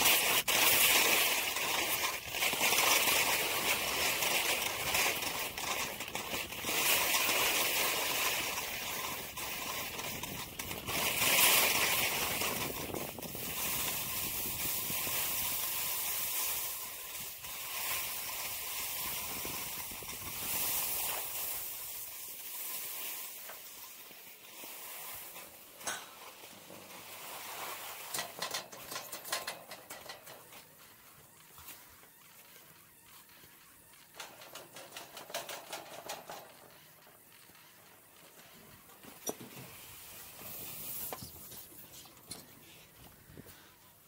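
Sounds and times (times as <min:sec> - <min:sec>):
skis scraping over snow: 0:00.0 - 0:44.0.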